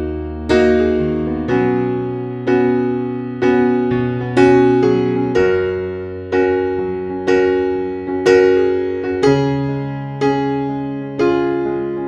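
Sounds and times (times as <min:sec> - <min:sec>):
slow electric piano chords: 0:00.0 - 0:12.0.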